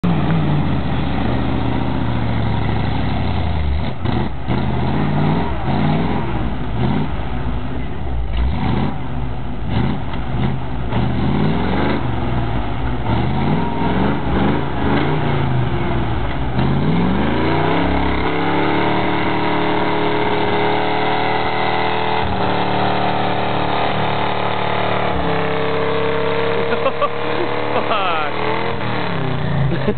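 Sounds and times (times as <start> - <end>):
tires churning through snow: 0.0 - 29.9
truck engine revving: 0.0 - 29.9.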